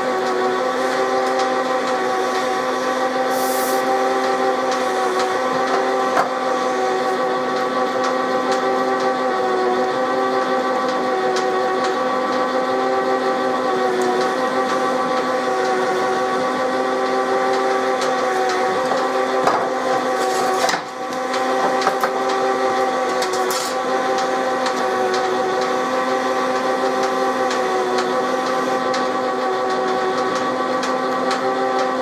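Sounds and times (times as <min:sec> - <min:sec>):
drilling machine humming: 0:00.0 - 0:32.0.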